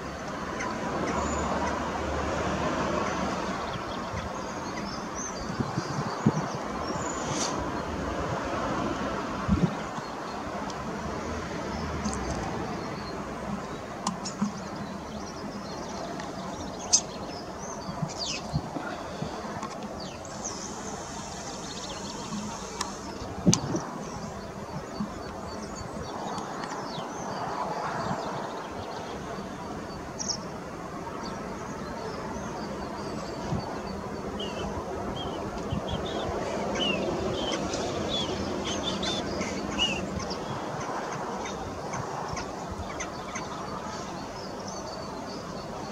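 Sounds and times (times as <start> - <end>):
small birds chirping: 2.9 - 7.9, 9.5 - 30.5, 31.2 - 45.9.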